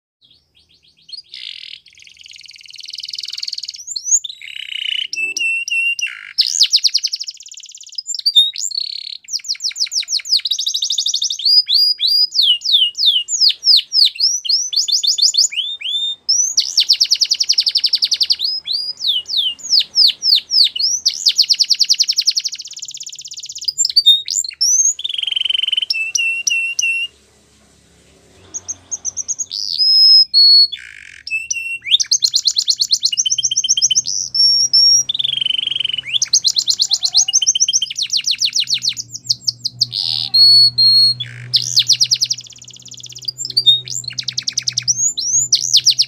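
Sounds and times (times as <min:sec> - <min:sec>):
canary singing: 0:00.2 - 0:46.0.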